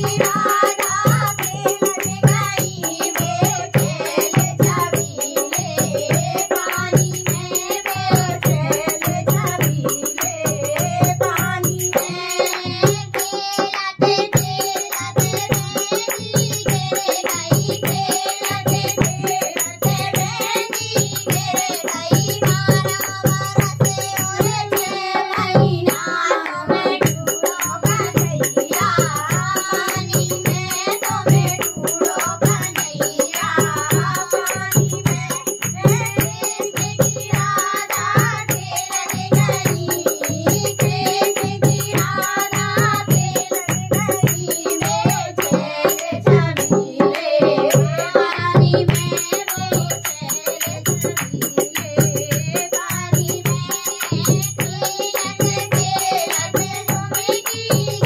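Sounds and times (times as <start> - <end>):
girls singing: 0.0 - 58.0
jingling hand percussion: 0.0 - 58.0.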